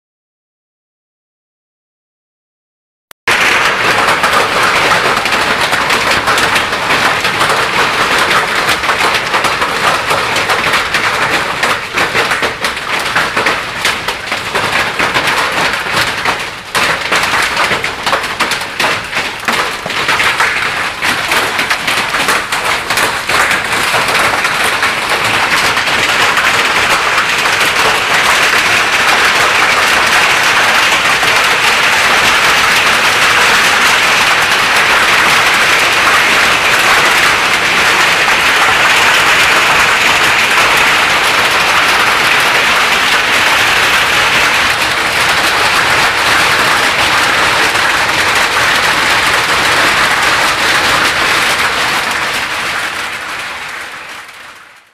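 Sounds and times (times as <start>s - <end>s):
hail on tin roofs: 3.3s - 54.9s.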